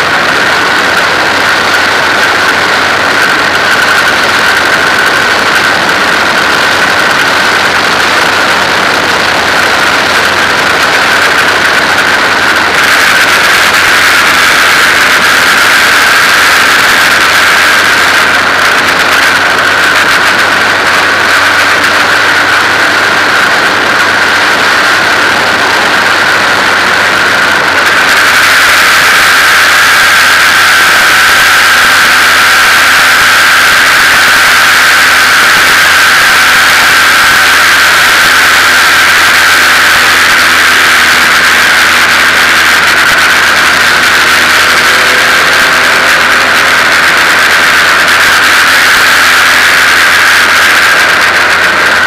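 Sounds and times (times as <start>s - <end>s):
high engine whine: 0.0s - 52.0s
race car engine drone: 0.0s - 52.0s.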